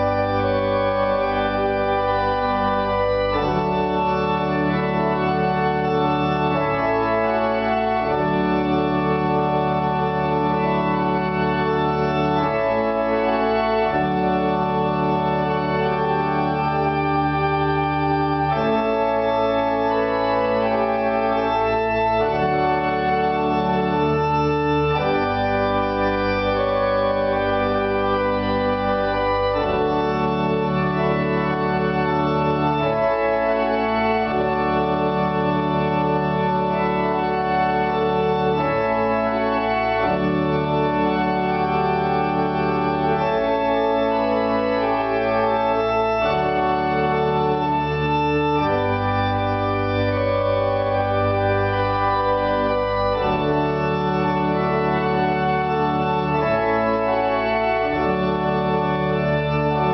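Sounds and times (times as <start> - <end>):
church pipe organ chords: 0.0 - 59.9.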